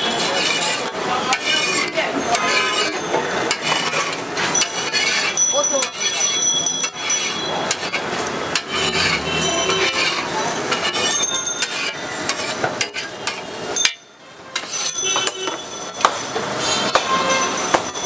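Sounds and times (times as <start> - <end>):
metal spatula scraping griddle: 0.0 - 17.9
street noise: 0.0 - 18.0.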